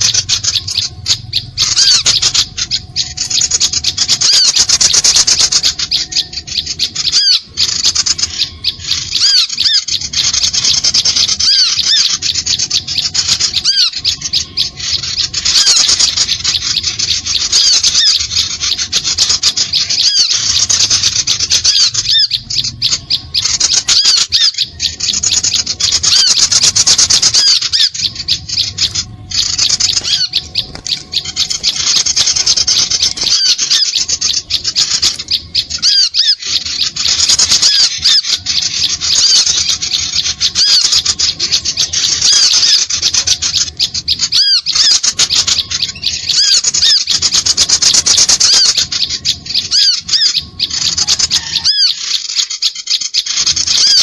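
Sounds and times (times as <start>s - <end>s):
small birds chattering: 0.0s - 54.0s.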